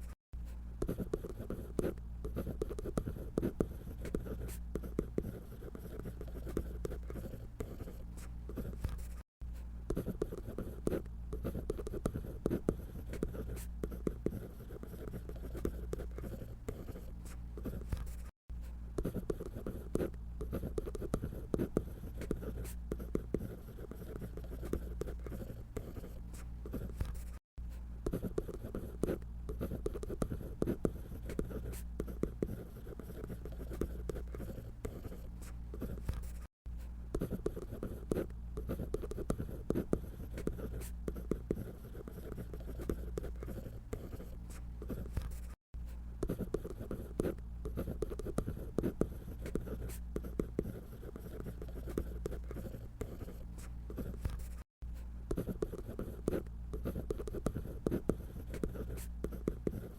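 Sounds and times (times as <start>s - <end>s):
drawing tool scratching on paper: 0.8s - 9.3s, 9.9s - 18.4s, 19.0s - 27.4s, 28.0s - 36.5s, 37.1s - 45.6s, 46.2s - 54.7s, 55.3s - 59.9s.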